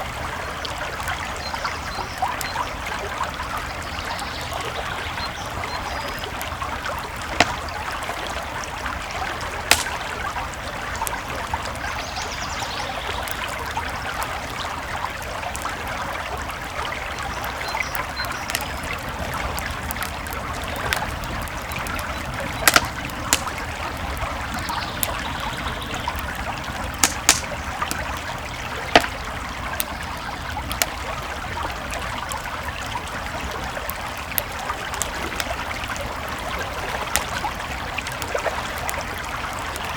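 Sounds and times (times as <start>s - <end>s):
creek water flowing: 0.0s - 39.9s
campfire wood popping: 2.2s - 12.1s, 13.1s - 39.9s.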